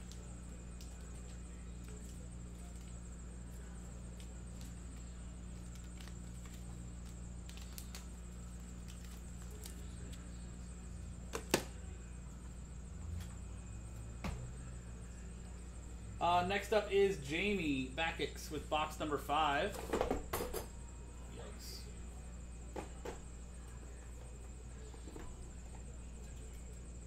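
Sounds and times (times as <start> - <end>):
room equipment humming: 0.0 - 27.0.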